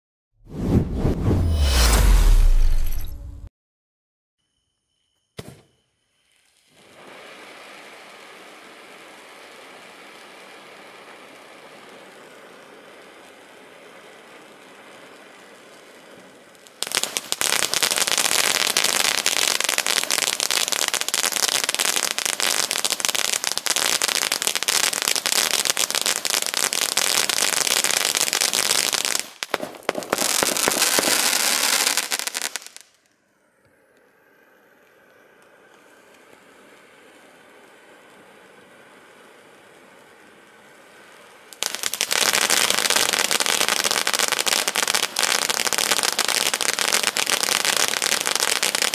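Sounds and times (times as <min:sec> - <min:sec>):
firework hissing: 0:06.2 - 0:48.9
firework loud crackling: 0:06.3 - 0:33.0, 0:34.3 - 0:48.9.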